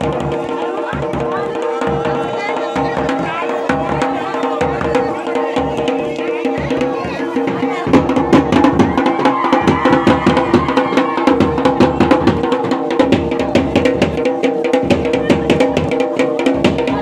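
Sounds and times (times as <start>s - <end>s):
folk drums beating fast: 0.0s - 17.0s.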